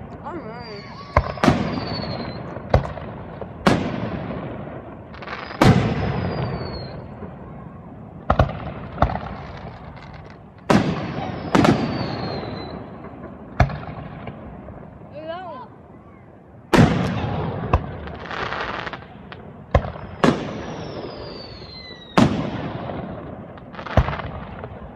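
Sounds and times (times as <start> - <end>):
firework bangs with rumbling echo: 0.0 - 15.5, 16.6 - 24.9.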